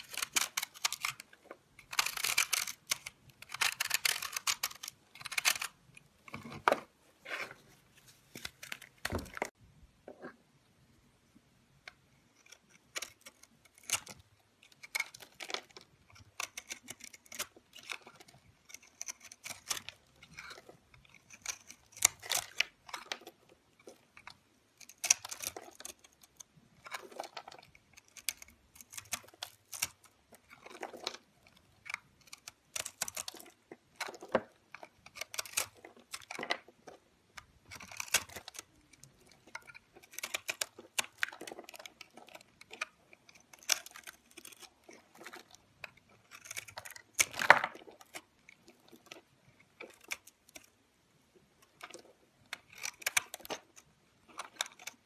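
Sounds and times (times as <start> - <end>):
knife cutting and scraping soap: 0.0 - 10.6, 11.7 - 55.0.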